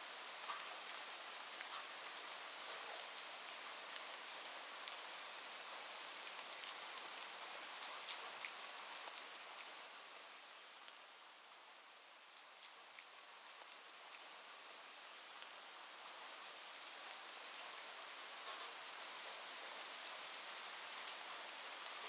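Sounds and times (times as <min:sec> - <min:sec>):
rain drops ticking: 0:00.0 - 0:22.0.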